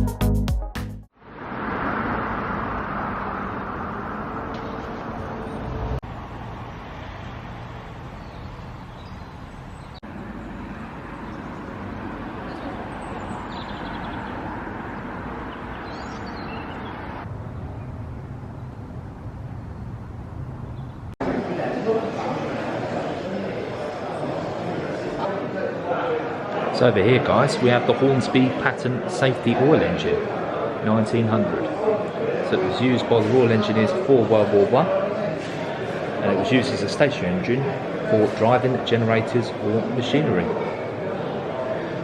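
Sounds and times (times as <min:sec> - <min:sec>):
road traffic hum: 0:01.1 - 0:42.0.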